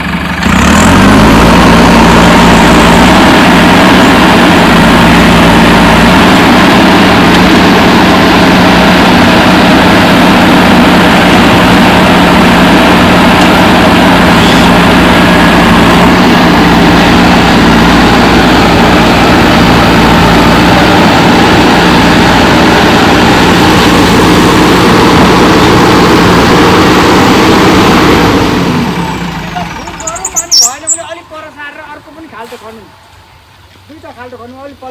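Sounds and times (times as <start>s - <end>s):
loud diesel engine running: 0.0s - 34.9s.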